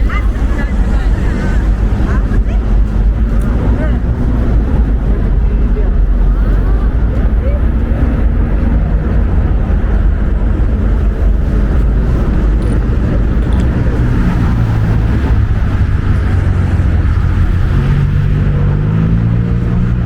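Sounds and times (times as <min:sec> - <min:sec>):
city street noise: 0:00.0 - 0:20.0
low engine hum: 0:00.0 - 0:20.0
wind buffeting microphone: 0:00.0 - 0:20.0.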